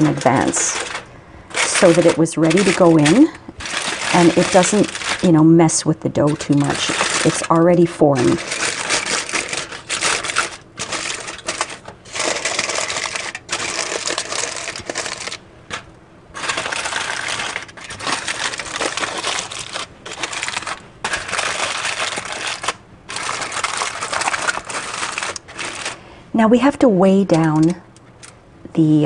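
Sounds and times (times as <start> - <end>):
aluminium foil crinkling: 0.0 - 28.4.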